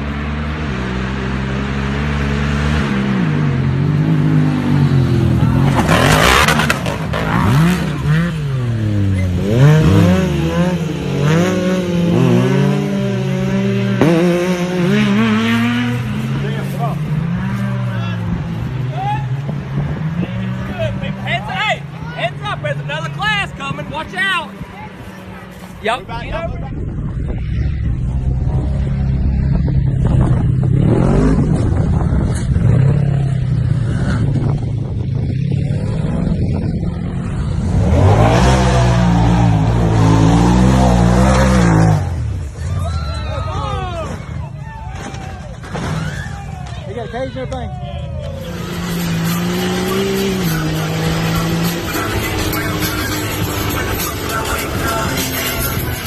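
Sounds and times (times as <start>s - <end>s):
vehicle engine revving: 0.0s - 44.5s, 48.2s - 56.0s.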